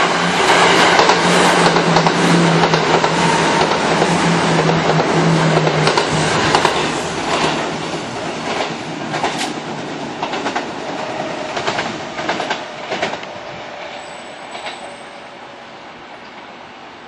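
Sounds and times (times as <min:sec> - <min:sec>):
electric train running: 0:00.0 - 0:15.2
wheels clacking over rail joints: 0:00.6 - 0:15.0.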